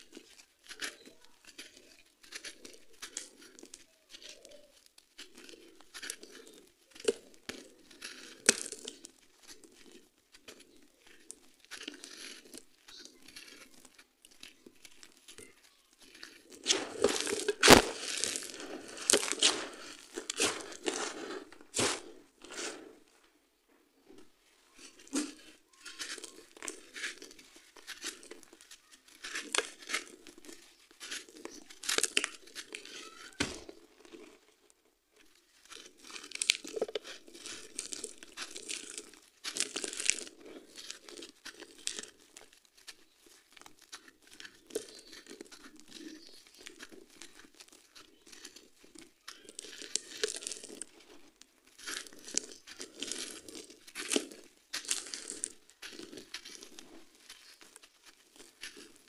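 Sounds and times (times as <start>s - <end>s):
sand-cement lumps crunching by hand: 0.0s - 23.1s, 24.1s - 34.4s, 35.2s - 59.0s.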